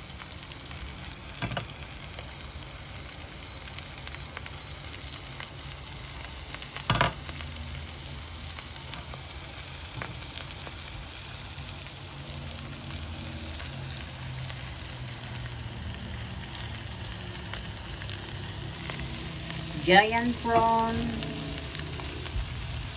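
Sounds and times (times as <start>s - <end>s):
prawns sizzling in a pan: 0.0s - 22.9s.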